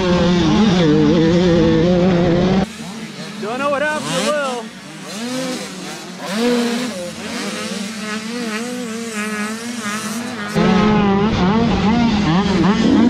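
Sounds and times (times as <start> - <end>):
close engine: 0.0 - 13.0
dirt bike engines revving: 0.0 - 13.0.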